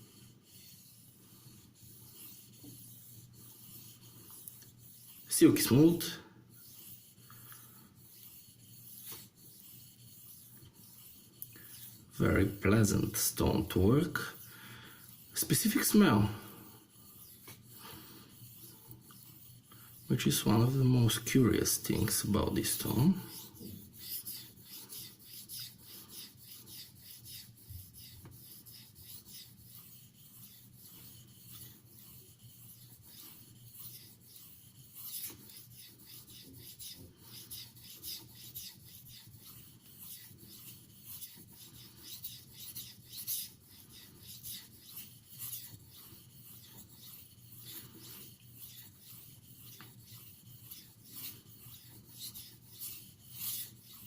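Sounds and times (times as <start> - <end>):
knife scraping on whetstone: 0.0 - 54.0.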